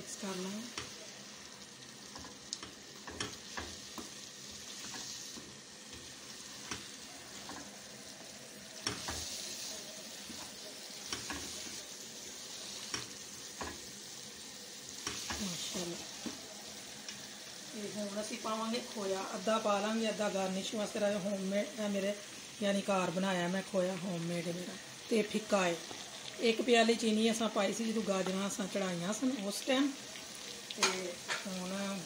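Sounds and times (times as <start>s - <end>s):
carrots sizzling in fat: 0.0s - 32.0s.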